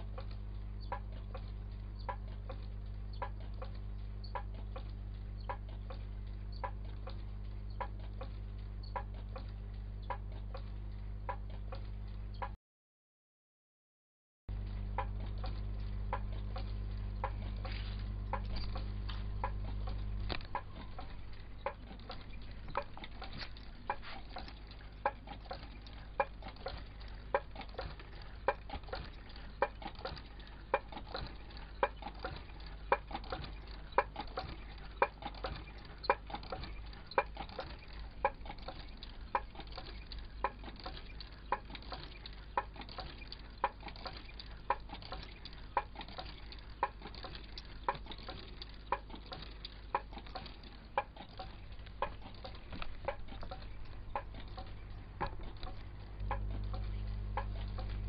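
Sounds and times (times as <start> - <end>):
steady low hum: 0.0 - 12.6, 14.5 - 58.0.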